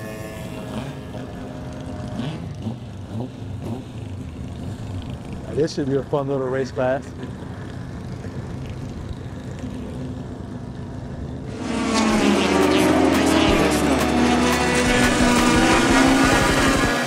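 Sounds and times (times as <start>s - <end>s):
low engine hum: 0.0s - 17.0s
race cars passing: 0.0s - 17.0s.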